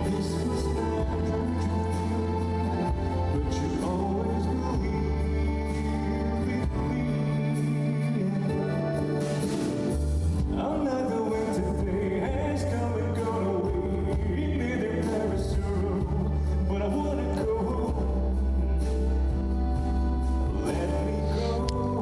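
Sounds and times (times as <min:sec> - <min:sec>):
bass and instrumental accompaniment: 0:00.0 - 0:22.0
man singing a slow ballad: 0:00.0 - 0:22.0.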